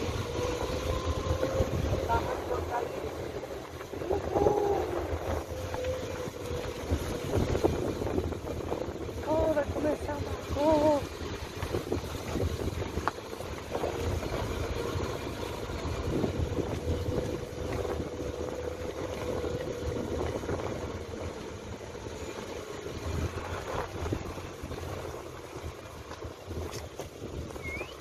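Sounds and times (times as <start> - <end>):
low road rumble: 0.0 - 28.0
wind noise on microphone: 0.0 - 28.0.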